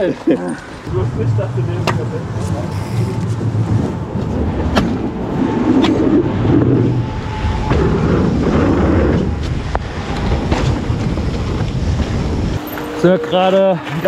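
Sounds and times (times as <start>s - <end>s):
wind rumbling on microphone: 0.8s - 12.7s.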